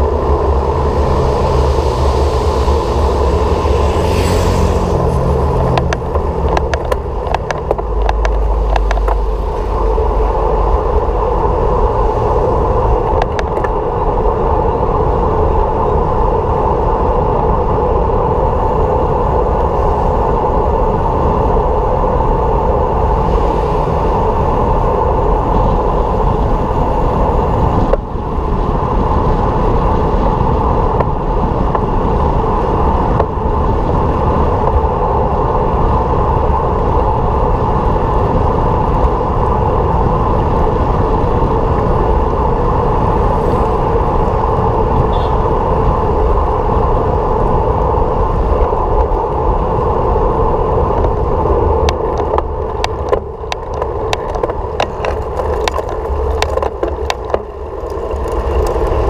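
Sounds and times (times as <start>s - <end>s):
low engine hum: 0.0s - 59.0s
road and wind noise: 0.0s - 59.0s.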